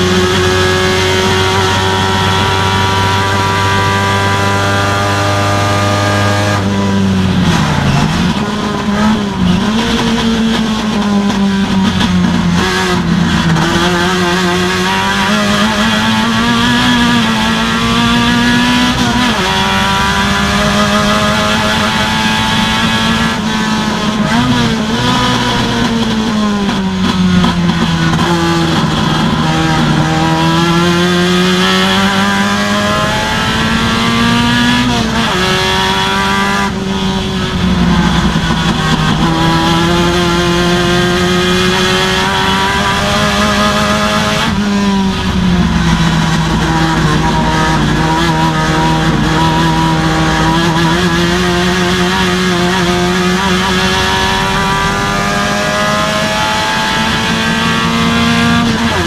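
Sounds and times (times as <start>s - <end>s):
racing car engine at high revs: 0.0s - 59.0s.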